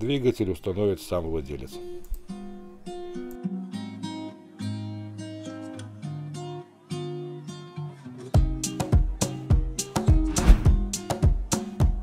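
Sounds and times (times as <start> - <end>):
acoustic guitar melody: 1.8 - 12.0.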